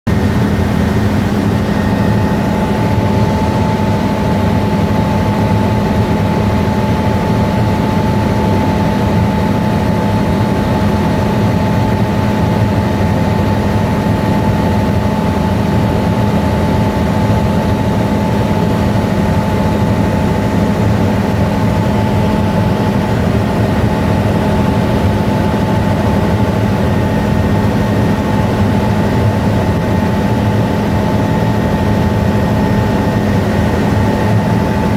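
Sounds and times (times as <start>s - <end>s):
helicopter engine and rotors drone: 0.1s - 34.9s.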